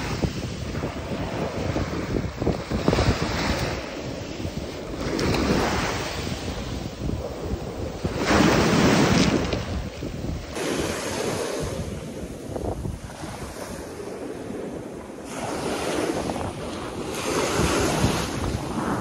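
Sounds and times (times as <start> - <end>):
small waves breaking on beach: 0.0 - 19.0
wind buffeting microphone: 0.0 - 19.0.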